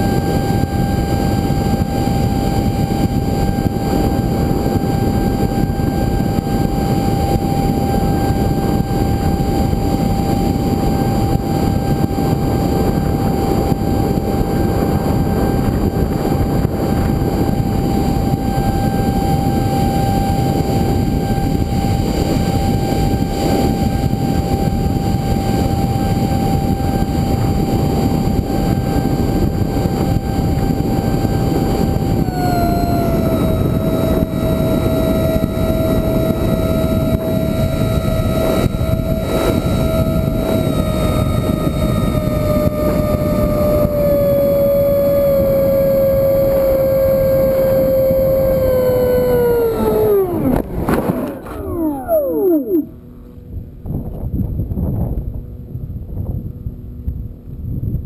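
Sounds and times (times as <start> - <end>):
electric fan high whine: 0.0 - 58.0.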